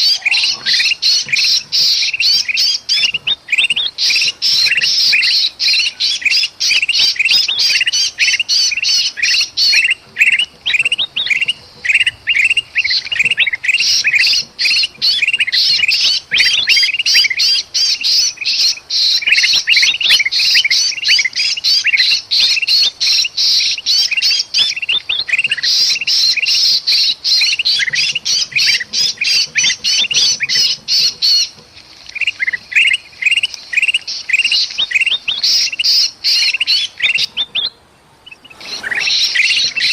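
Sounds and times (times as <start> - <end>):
bird chirps and squawks: 0.0 - 39.9
bird distress calls: 0.0 - 39.9.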